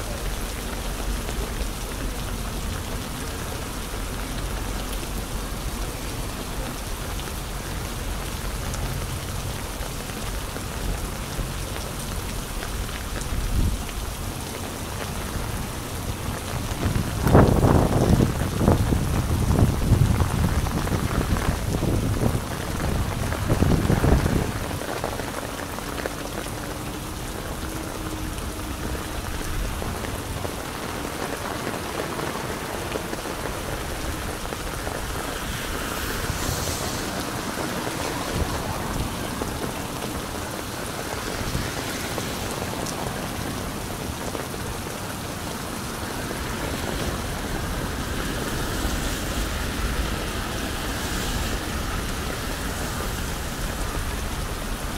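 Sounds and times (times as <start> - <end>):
rain on wet street: 0.0 - 54.9
rain pattering on umbrella: 0.0 - 54.9.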